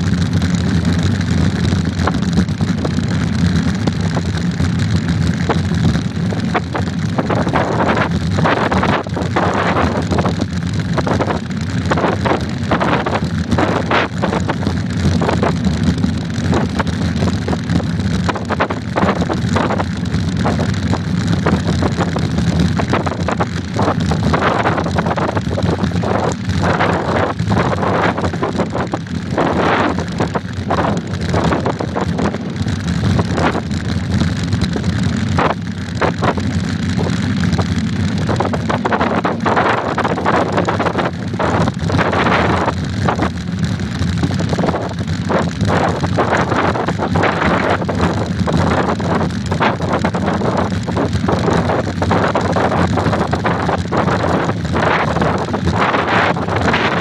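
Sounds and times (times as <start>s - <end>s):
bike rumble on dirt road: 0.0s - 57.0s.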